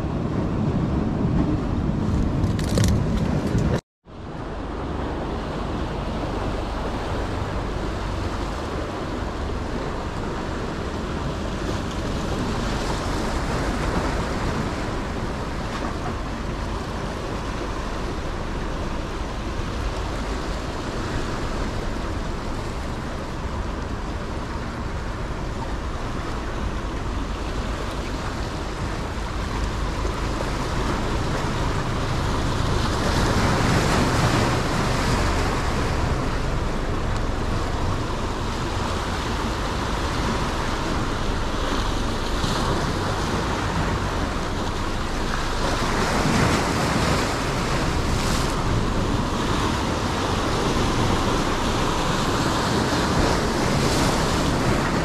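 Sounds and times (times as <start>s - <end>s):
wind rumble on microphone: 0.0s - 55.0s
surf breaking on rocks: 5.1s - 55.0s.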